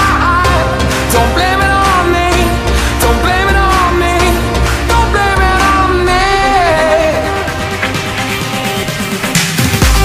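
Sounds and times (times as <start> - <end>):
background pop music: 0.0 - 10.0.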